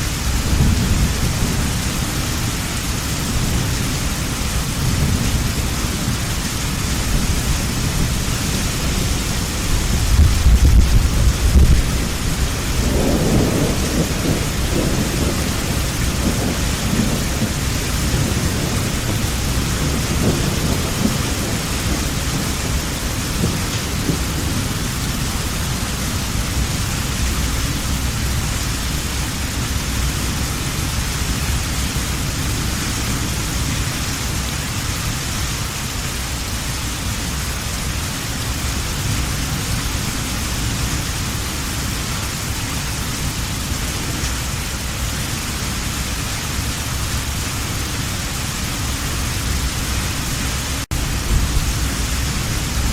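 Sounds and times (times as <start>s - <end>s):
thunder rumbling: 0.0s - 35.2s, 38.2s - 52.9s
heavy rain falling: 0.0s - 52.9s.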